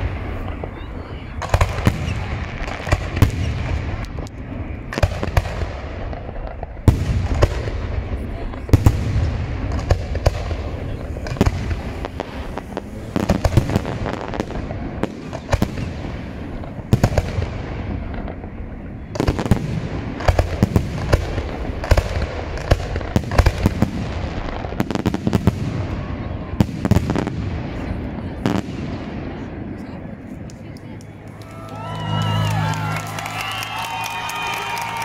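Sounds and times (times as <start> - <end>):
firework bangs: 0.0 - 35.0
firework crackle and rumble: 0.0 - 35.0.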